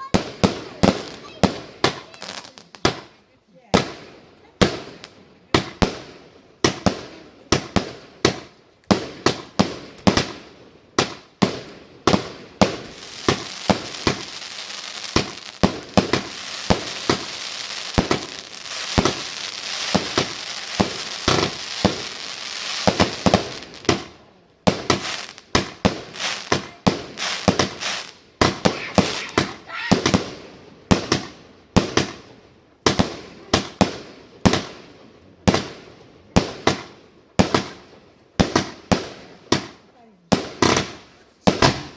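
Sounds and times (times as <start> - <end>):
continuous crackling hiss: 0.0 - 41.9
fireworks bangs: 0.0 - 41.9.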